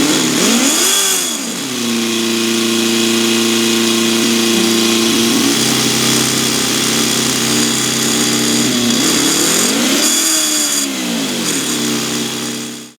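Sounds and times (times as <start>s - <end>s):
model engine running and revving: 0.0s - 12.9s.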